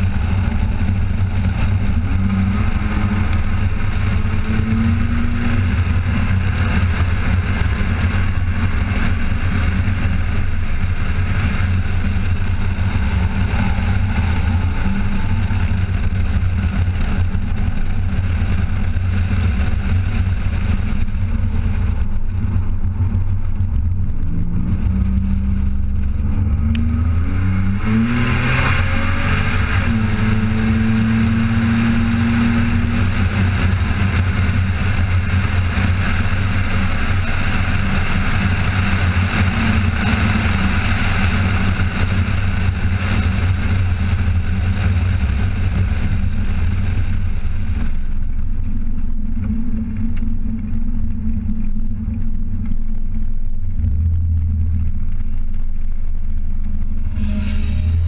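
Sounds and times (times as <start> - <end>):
wind rush: 0.0 - 48.6
car engine running hard: 0.0 - 58.0.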